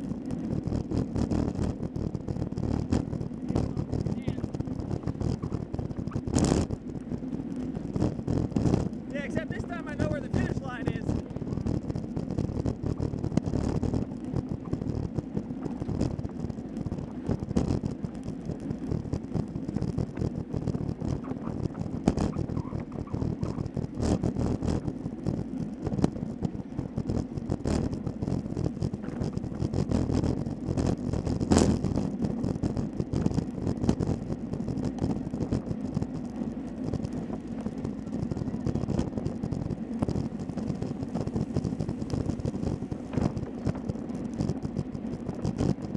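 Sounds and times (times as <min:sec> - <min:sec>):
road rumble: 0:00.0 - 0:45.9
wind rushing over microphone: 0:00.0 - 0:45.9.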